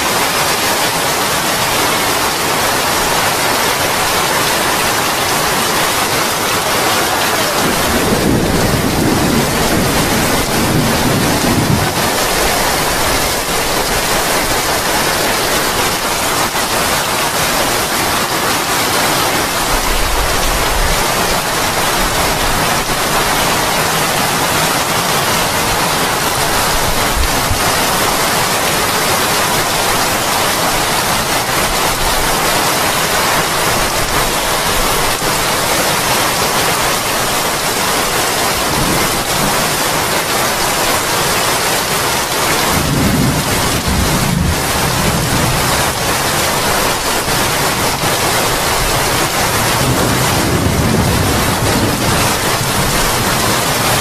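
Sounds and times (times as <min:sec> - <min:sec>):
heavy rain on wooden deck and roof: 0:00.0 - 0:54.0.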